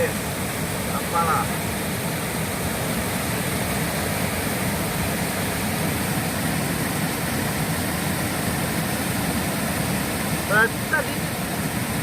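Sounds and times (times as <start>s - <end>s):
waterfall and river rushing: 0.0s - 12.0s.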